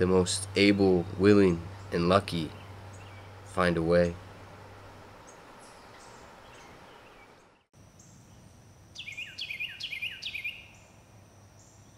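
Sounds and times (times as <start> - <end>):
wren singing: 0.0 - 4.3, 5.2 - 11.0
steady faint high tone: 0.0 - 11.9.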